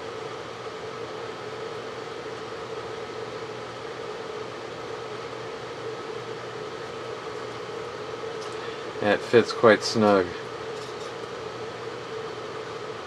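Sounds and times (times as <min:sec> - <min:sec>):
constant hum: 0:00.0 - 0:13.0
steady background hiss: 0:00.0 - 0:13.0.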